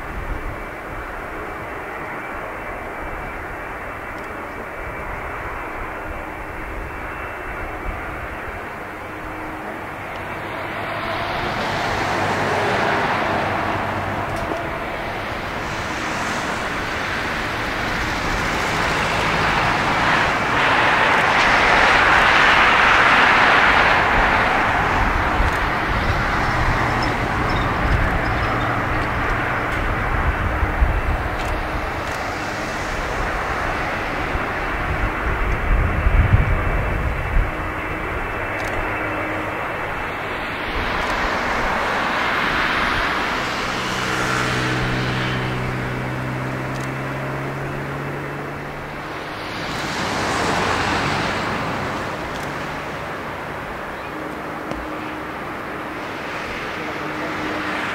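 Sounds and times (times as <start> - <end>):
jet engines passing close: 0.0 - 57.9.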